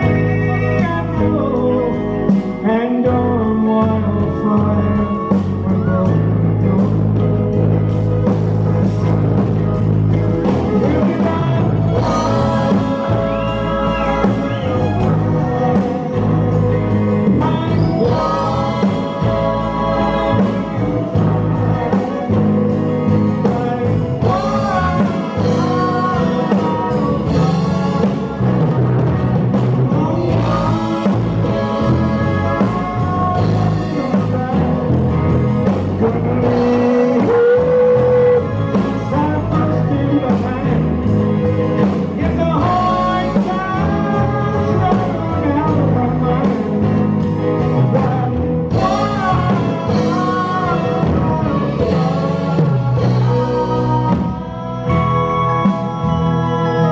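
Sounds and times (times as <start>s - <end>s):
country-rock band playing: 0.0s - 56.9s
man singing: 0.0s - 56.9s.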